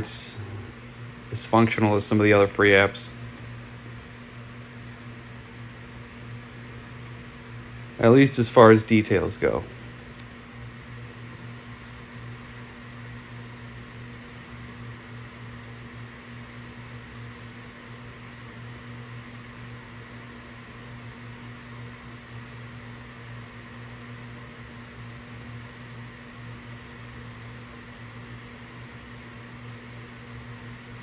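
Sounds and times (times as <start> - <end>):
faint high whine: 0.0 - 31.0
low electrical hum: 0.0 - 31.0.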